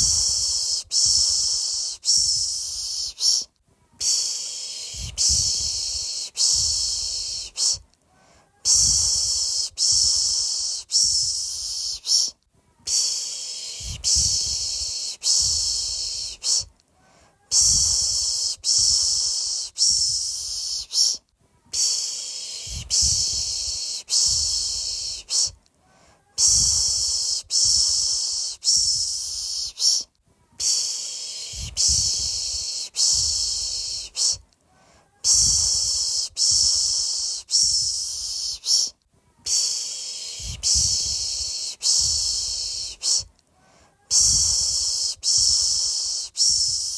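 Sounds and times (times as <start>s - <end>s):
person shushing: 0.0s - 34.4s, 35.0s - 43.3s, 43.9s - 46.9s.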